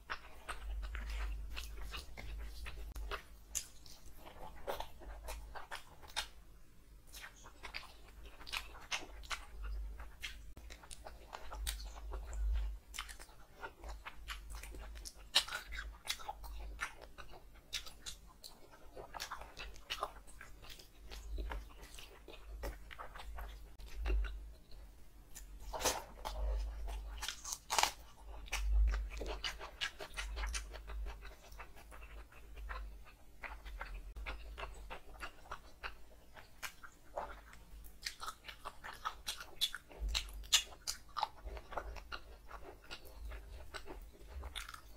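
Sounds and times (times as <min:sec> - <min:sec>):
person chewing with wet smacks: 0:00.0 - 0:06.4, 0:07.0 - 0:44.9.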